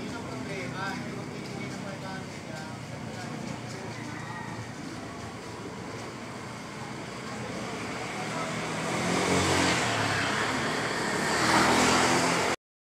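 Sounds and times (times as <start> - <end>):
vehicle engine approaching: 0.0 - 12.6.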